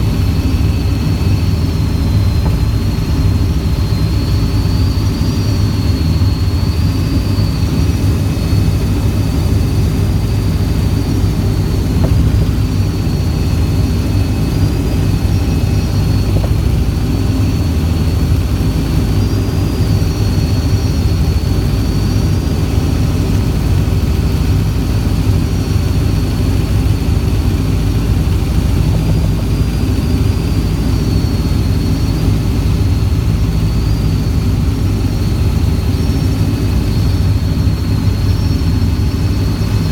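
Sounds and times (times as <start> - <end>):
helicopter drone: 0.0 - 39.9
high turbine whine: 0.0 - 39.9.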